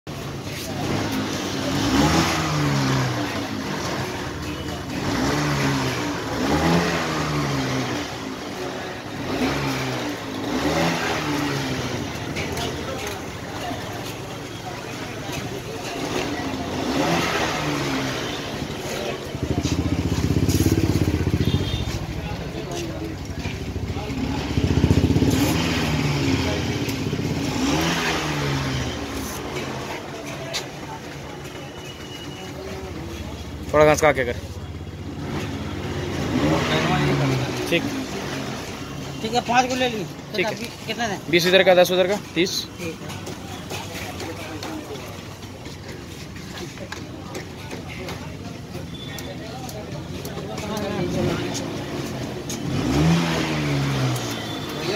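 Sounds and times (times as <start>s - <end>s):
motorcycle engine revving: 0.1s - 31.5s, 32.5s - 54.9s.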